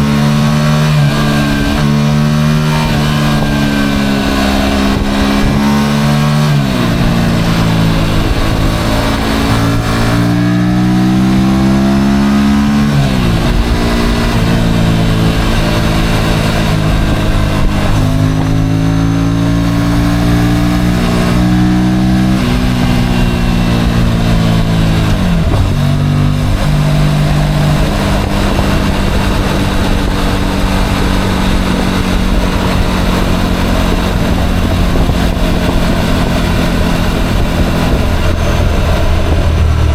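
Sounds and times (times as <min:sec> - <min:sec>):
motorcycle engine revving: 0:00.0 - 0:39.9
road and wind noise: 0:00.0 - 0:39.9.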